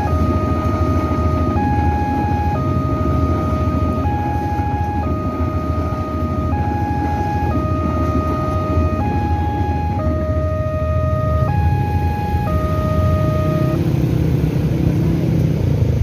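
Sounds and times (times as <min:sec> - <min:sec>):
two-tone crossing alarm: 0:00.0 - 0:14.1.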